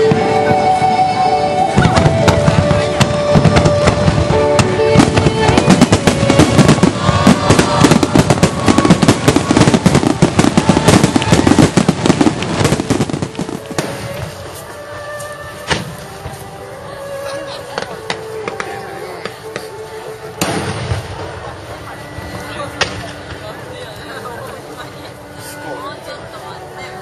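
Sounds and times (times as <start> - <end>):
fireworks bangs and crackles: 0.0 - 26.2
music playing: 0.0 - 27.0.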